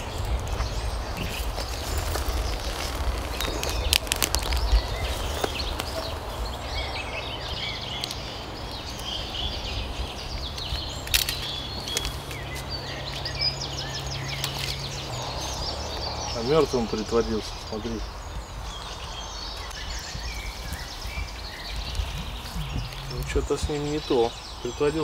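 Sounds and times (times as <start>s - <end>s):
forest ambience: 0.0s - 25.0s
small birds chirping: 0.0s - 25.0s
twigs crackling underfoot: 0.0s - 25.0s.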